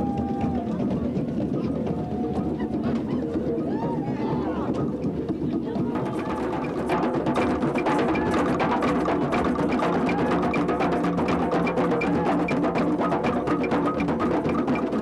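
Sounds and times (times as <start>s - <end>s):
drums and hand percussion: 0.0s - 15.0s.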